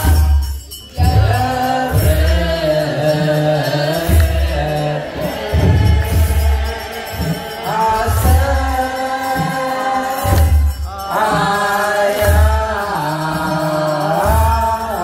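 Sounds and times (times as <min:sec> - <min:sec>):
deep drum beats: 0:00.0 - 0:15.0
voices chanting a hymn: 0:00.0 - 0:15.0.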